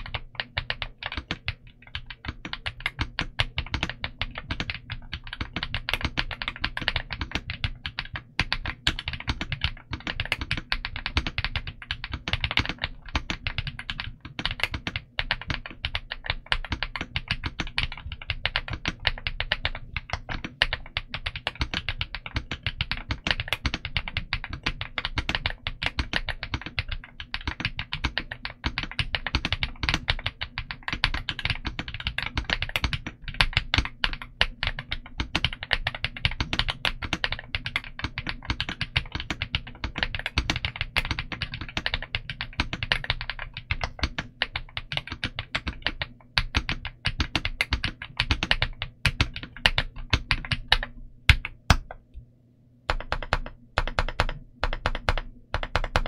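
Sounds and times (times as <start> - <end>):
mechanical keyboard typing: 0.0 - 52.0, 52.9 - 56.0.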